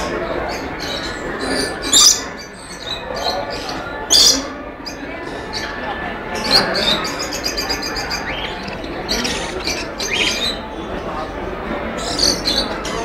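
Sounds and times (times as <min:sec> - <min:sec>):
parrots chirping and squawking: 0:00.0 - 0:11.4, 0:12.0 - 0:13.0
background din of birds: 0:00.0 - 0:13.0.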